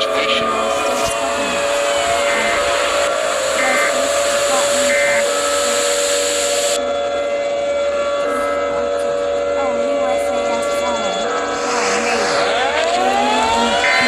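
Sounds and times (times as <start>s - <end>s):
steady tone: 0.0s - 14.0s.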